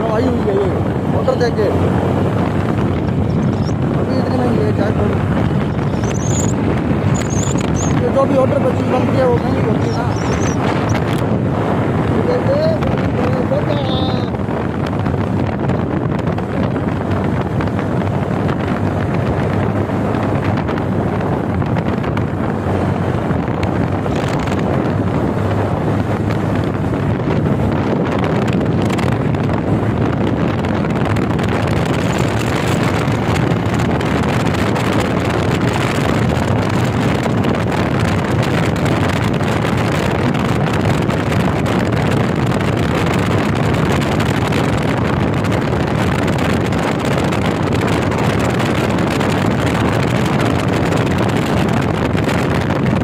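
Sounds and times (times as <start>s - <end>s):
motorcycle engine running: 0.0s - 53.0s
wind on microphone: 0.0s - 53.0s.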